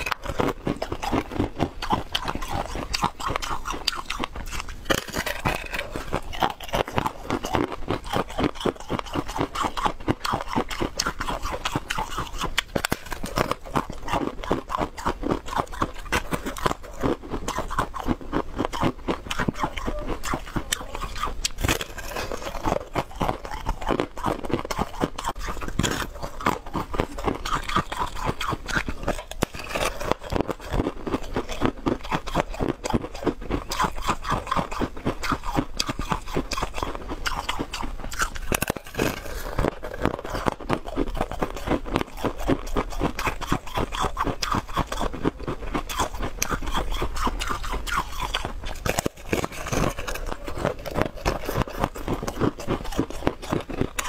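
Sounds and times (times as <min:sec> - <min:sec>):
crunching frozen block: 0:00.0 - 0:54.0.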